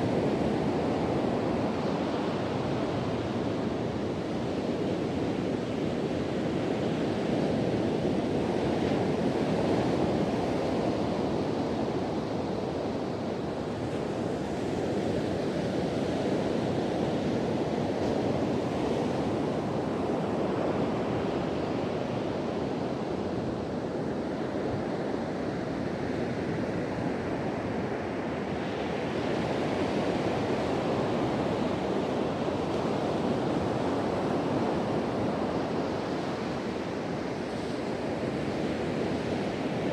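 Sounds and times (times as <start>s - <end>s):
wind blowing across microphone: 0.0s - 39.9s.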